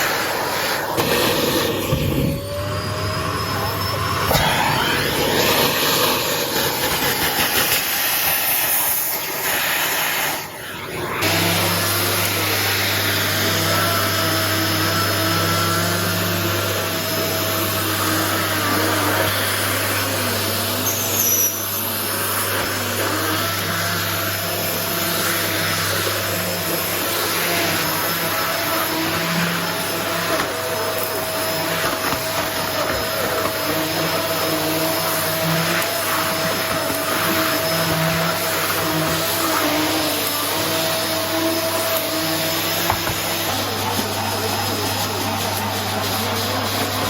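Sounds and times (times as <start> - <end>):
vacuum cleaner running: 0.0 - 47.0.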